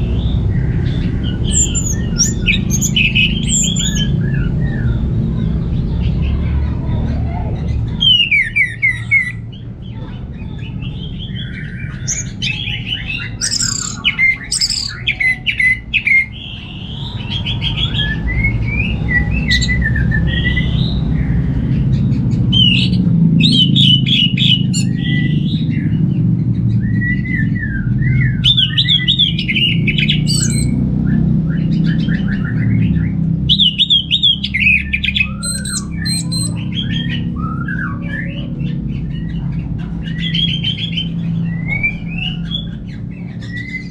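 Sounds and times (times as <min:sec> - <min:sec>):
steady low rumble: 0:00.0 - 0:43.9
thrush singing: 0:00.0 - 0:43.9.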